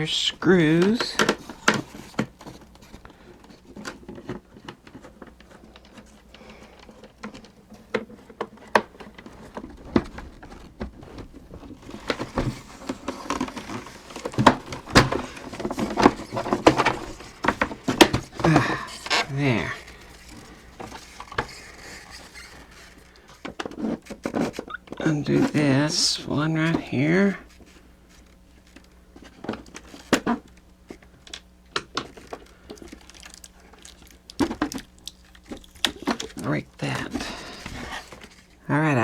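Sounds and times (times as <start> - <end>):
plastic clicking and rattling: 0.0 - 26.0, 26.6 - 38.6.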